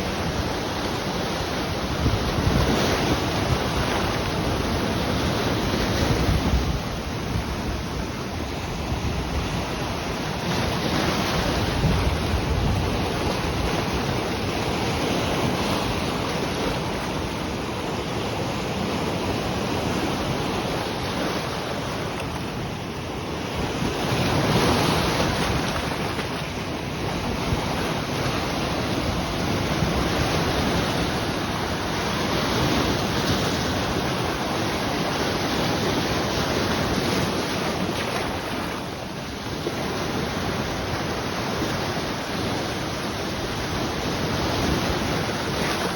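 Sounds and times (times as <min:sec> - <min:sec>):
sea waves washing onto shore: 0:00.0 - 0:45.9
wind buffeting microphone: 0:00.0 - 0:45.9.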